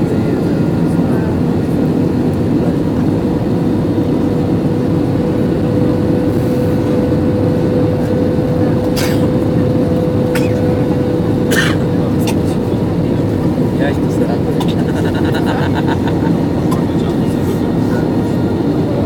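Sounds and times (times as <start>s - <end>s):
airliner engine roar: 0.0s - 19.0s.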